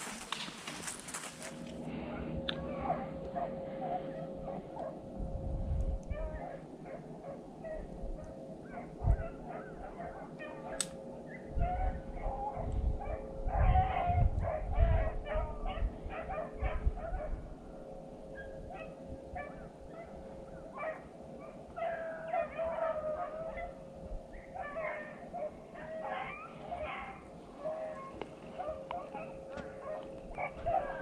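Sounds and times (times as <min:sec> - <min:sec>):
beagles baying: 0:00.8 - 0:05.1, 0:06.0 - 0:31.0.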